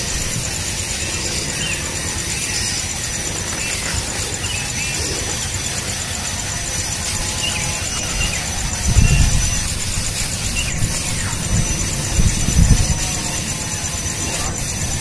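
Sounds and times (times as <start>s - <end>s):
high pulsing buzz: 0.0s - 15.0s.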